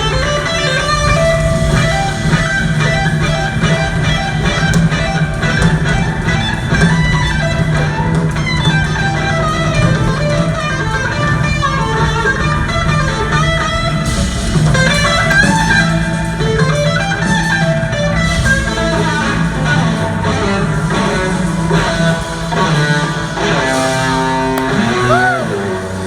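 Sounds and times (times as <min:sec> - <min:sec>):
bass and drums: 0:00.0 - 0:26.0
electric guitar lines: 0:00.0 - 0:26.0.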